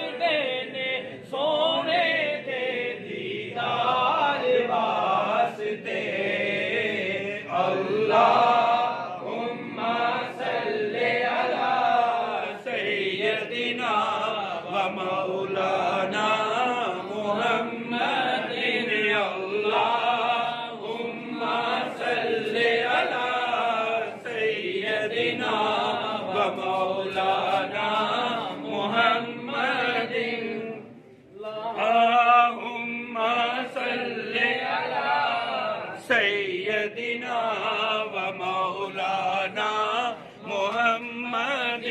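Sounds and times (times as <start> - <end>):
crowd of men chanting: 0.0 - 30.9, 31.5 - 41.9.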